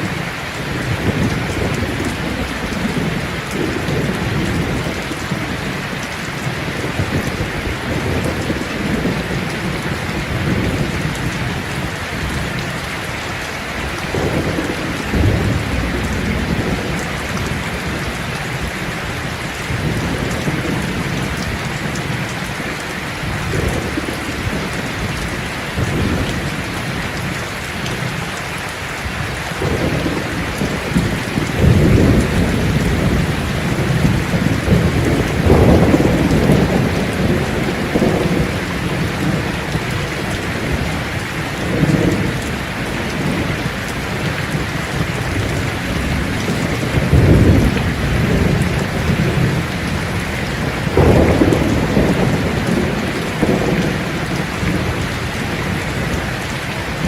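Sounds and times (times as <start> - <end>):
low rolling thunder: 0.0 - 12.9, 13.8 - 28.2, 29.1 - 57.0
heavy rainfall: 0.0 - 57.0.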